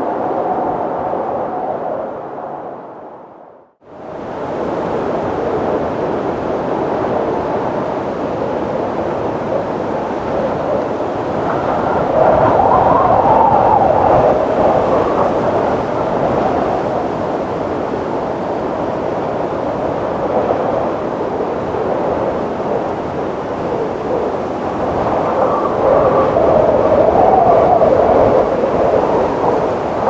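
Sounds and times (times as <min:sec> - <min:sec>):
howling wind: 0:00.0 - 0:30.0.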